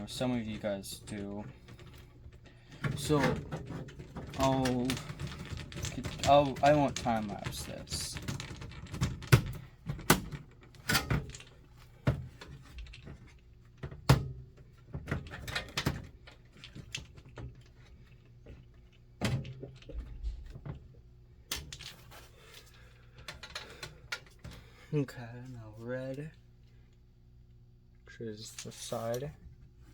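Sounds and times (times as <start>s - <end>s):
wires and tool handling: 0.0s - 27.0s, 28.4s - 29.9s.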